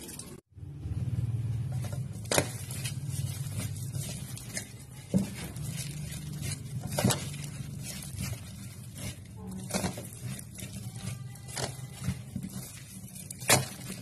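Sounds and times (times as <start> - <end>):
hands kneading wet food: 0.0 - 14.0.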